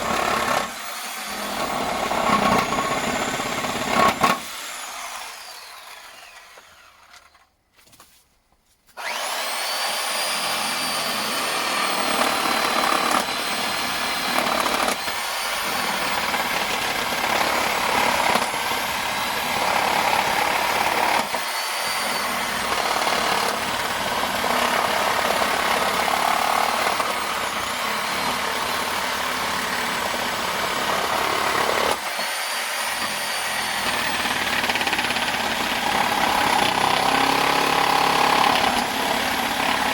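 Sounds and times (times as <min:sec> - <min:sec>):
reciprocating saw cutting wood: 0:00.0 - 0:07.5, 0:09.0 - 0:39.9.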